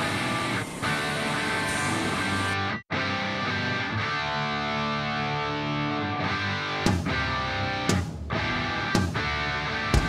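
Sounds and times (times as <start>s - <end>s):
rock music with distorted guitar: 0.0s - 10.0s.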